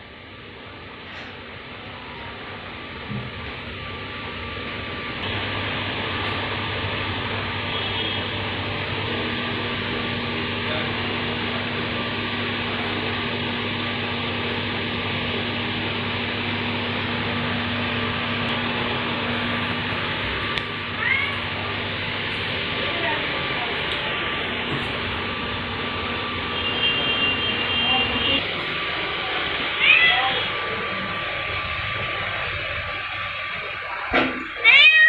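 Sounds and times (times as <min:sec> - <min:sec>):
mechanical whir with low hum: 0:00.0 - 0:34.8.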